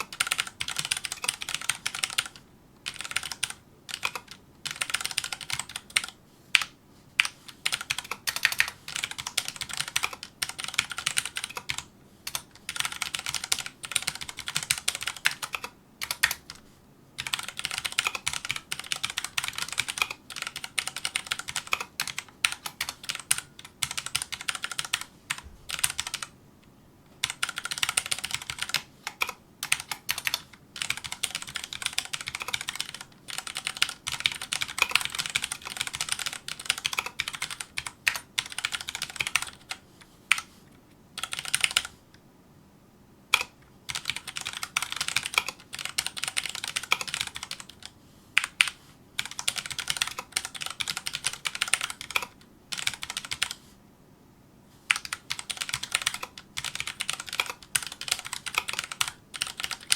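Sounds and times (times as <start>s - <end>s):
mechanical keyboard typing: 0.0s - 16.6s, 17.2s - 26.3s, 27.2s - 40.5s, 41.2s - 42.0s, 43.3s - 53.6s, 54.9s - 59.9s.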